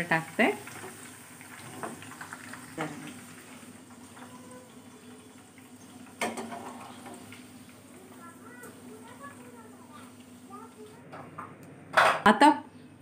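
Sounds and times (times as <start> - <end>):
oil sizzling faintly in pan: 0.0 - 11.4.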